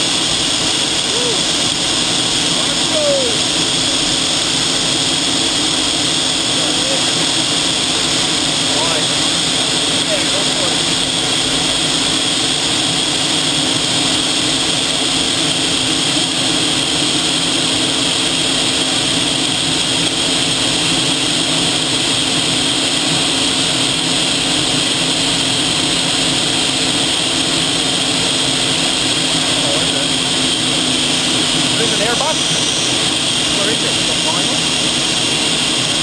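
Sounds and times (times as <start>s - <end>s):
high whine: 0.0s - 36.0s
jet engine and airflow noise: 0.0s - 36.0s.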